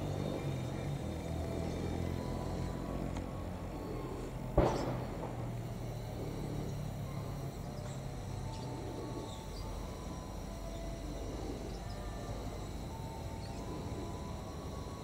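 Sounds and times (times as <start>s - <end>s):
birds chirping: 0.0s - 15.0s
diesel locomotive rumble: 0.0s - 15.0s
insects chirping: 0.0s - 15.0s.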